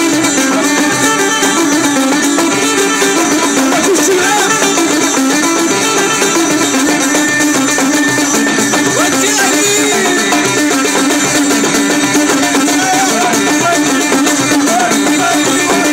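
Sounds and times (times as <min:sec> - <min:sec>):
frame drums beating: 0:00.0 - 0:15.9
plucked string instrument: 0:00.0 - 0:15.9.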